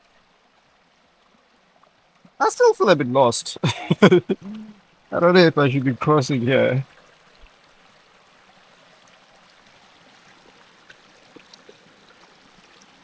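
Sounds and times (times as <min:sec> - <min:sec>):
small stream running: 0:00.0 - 0:13.0.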